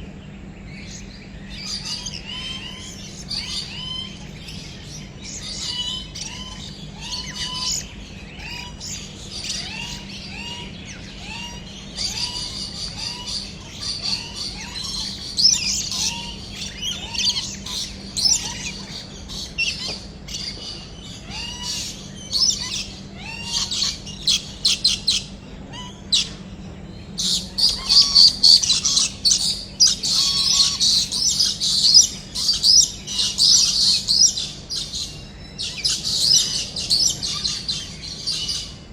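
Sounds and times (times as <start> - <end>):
birds chattering and chirping: 0.0 - 38.9.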